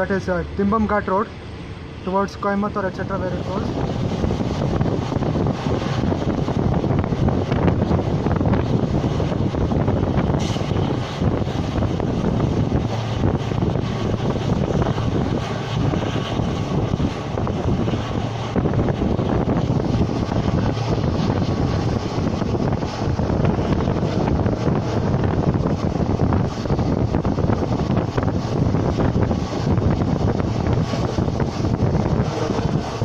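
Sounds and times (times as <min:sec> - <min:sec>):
train coach rumbling on track: 0:00.0 - 0:33.0
wind buffeting microphone: 0:00.0 - 0:33.0.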